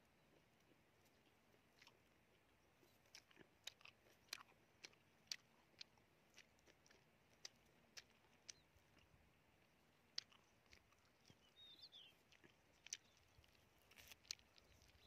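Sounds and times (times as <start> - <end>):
person chewing honeycomb: 0.0 - 15.0.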